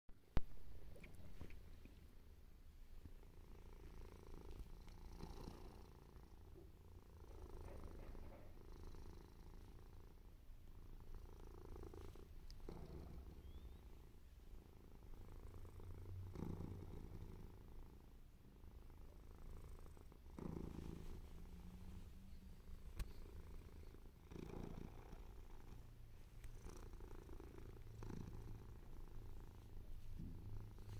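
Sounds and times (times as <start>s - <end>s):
cat purring: 0.3s - 30.9s.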